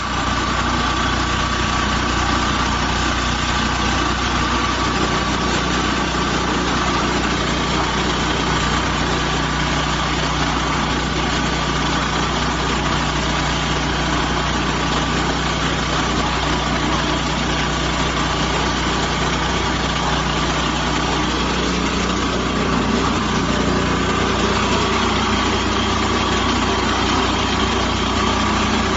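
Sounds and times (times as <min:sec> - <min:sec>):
concrete mixer diesel engine running: 0:00.0 - 0:28.9.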